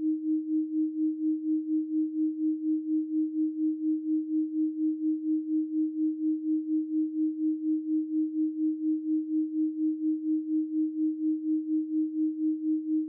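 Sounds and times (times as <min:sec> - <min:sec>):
pulsing pure sine tone: 0:00.0 - 0:13.0.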